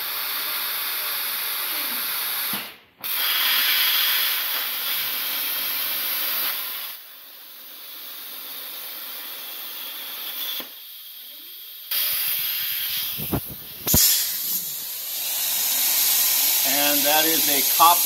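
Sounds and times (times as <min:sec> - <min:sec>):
plasma cutter torch hissing: 0:00.0 - 0:18.0.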